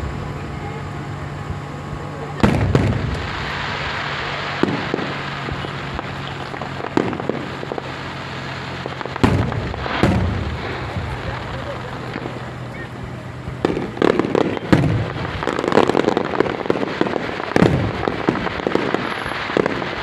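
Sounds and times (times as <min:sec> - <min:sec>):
background hiss: 0:00.0 - 0:20.0
fireworks bangs: 0:00.0 - 0:20.0
fireworks popping: 0:00.0 - 0:20.0.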